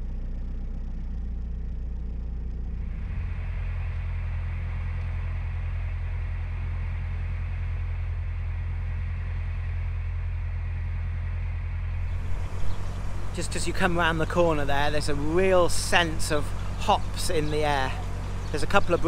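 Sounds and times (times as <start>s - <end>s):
boat diesel engine humming: 0.0s - 11.2s, 12.0s - 19.0s.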